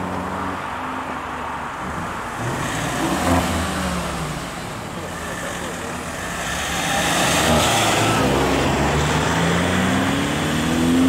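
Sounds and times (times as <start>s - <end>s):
car engine accelerating: 1.9s - 11.0s.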